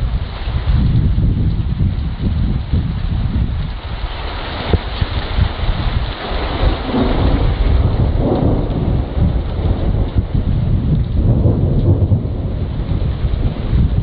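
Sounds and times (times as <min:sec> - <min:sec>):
falling rain: 0:00.0 - 0:14.0
thunder rumbling: 0:00.0 - 0:14.0.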